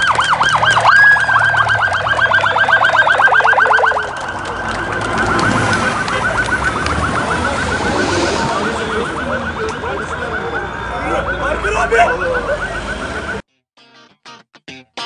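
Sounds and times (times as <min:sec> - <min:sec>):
police siren warbling: 0:00.0 - 0:13.4.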